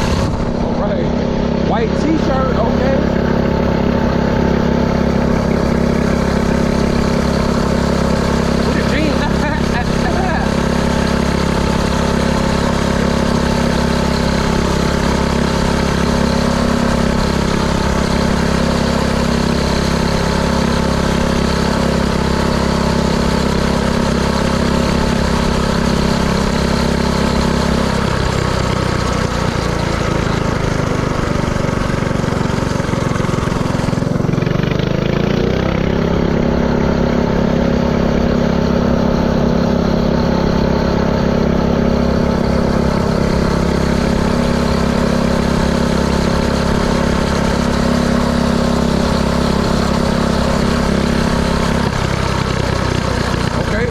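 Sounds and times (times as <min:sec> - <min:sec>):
mini-bike engine running: 0:00.0 - 0:53.9.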